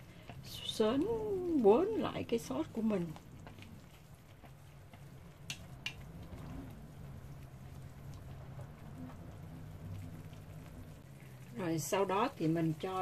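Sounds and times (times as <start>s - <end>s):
low steady hum: 0.0s - 13.0s
sauce bubbling and popping: 0.0s - 13.0s.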